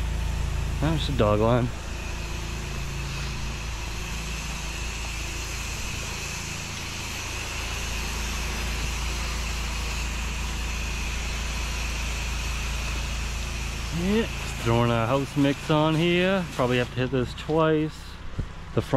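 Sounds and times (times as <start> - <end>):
pressure washer engine hum: 0.0 - 18.9
water jet hissing on siding: 0.6 - 18.6.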